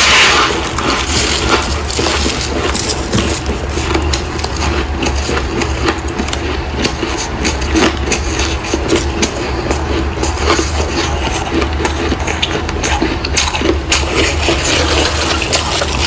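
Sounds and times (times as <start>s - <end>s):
freezer frost crunching: 0.0s - 16.0s
steady low hum: 0.0s - 16.0s.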